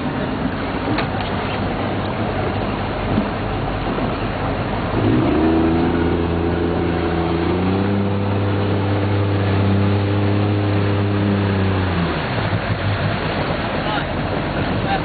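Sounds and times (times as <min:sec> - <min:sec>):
motorboat engine running: 0:00.0 - 0:15.0
wind and water noise: 0:00.0 - 0:15.0.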